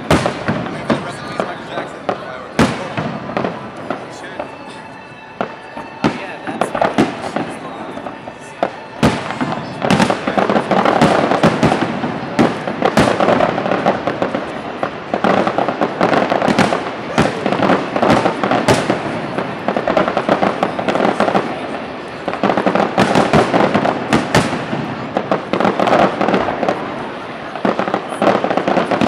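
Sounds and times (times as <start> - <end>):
fireworks banging and crackling: 0.0 - 29.0.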